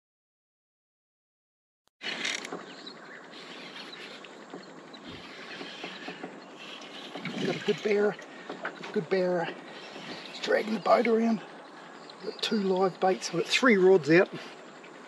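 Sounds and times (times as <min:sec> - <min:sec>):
insects chirring: 0:02.0 - 0:15.0.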